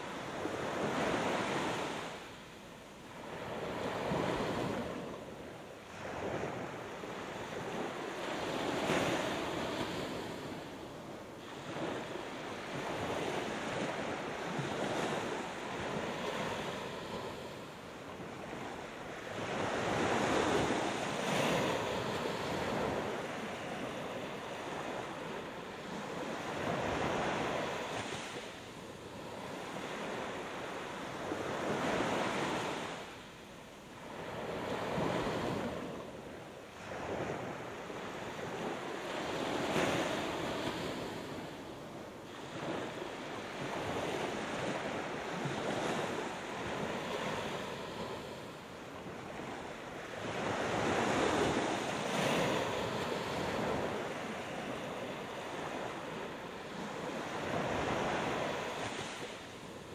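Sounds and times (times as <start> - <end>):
waves breaking on beach: 0.0 - 2.4, 3.0 - 59.9.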